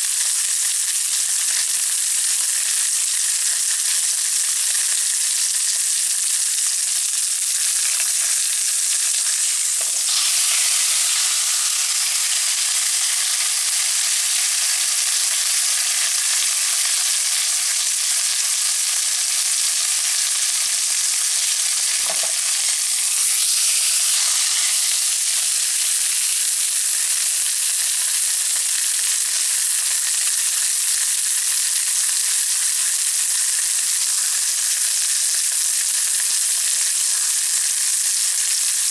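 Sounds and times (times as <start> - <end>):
pork sizzling in a pan: 0.0 - 38.9.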